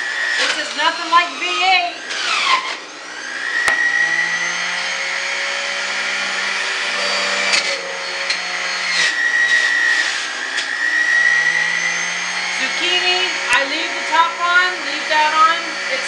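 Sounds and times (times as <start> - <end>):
juicer motor whining: 0.0 - 16.0.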